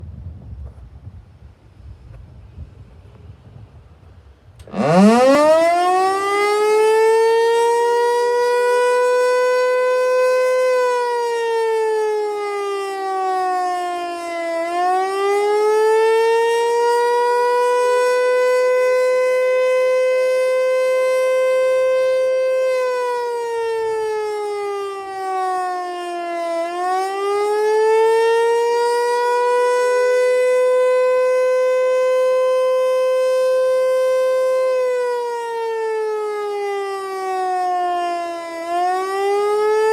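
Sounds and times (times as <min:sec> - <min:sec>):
tornado siren: 0:04.5 - 0:39.9.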